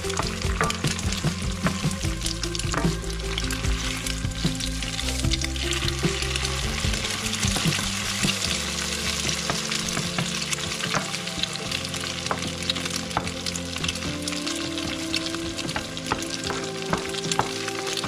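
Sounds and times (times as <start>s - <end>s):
eggs sizzling in hot oil: 0.0s - 18.0s.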